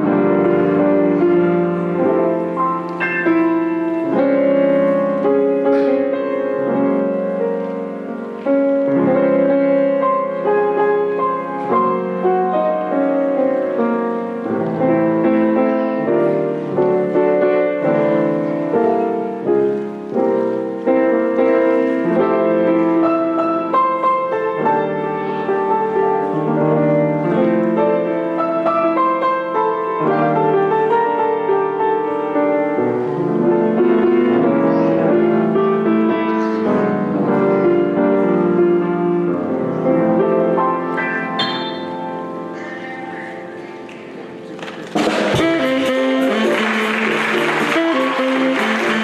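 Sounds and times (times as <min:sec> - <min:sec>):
slow piano chords: 0:00.0 - 0:49.0.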